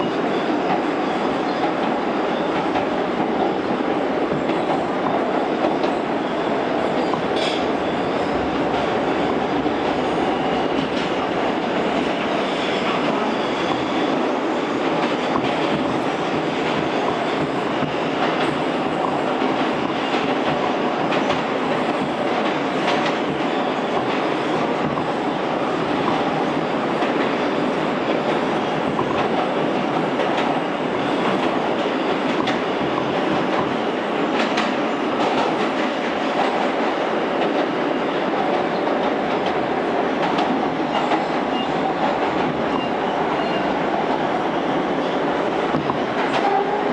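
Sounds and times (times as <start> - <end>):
rail joint clicks: 0.0 - 46.9
rumble of wheels on rail: 0.0 - 46.9.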